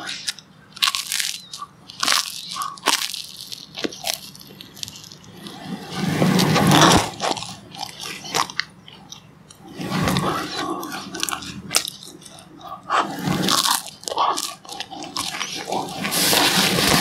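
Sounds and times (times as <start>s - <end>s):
biting and chewing bread: 0.0s - 17.0s.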